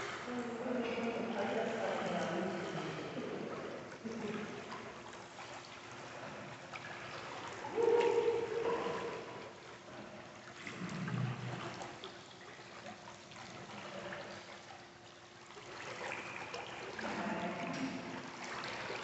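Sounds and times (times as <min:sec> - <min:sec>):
pool water sloshing: 0:00.0 - 0:19.0.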